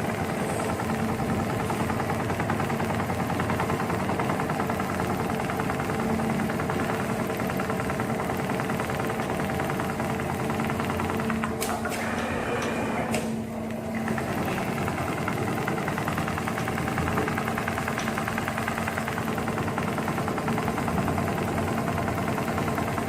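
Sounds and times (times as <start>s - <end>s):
sewing machine stitching: 0.0s - 23.0s.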